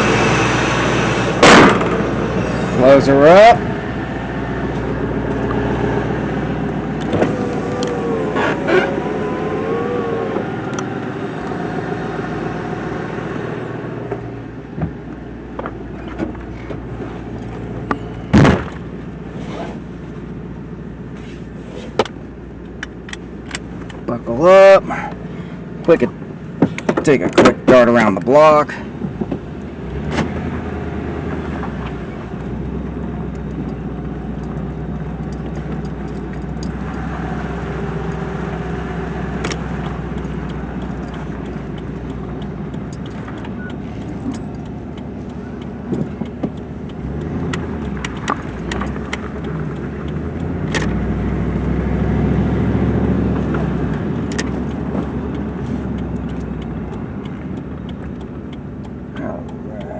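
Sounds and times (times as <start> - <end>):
truck engine driving: 0.0 - 59.9.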